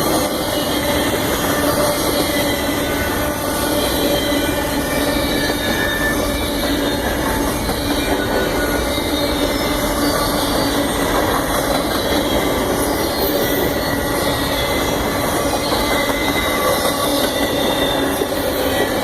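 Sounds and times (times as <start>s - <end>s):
train rumbling and rattling on rails: 0.0s - 19.0s.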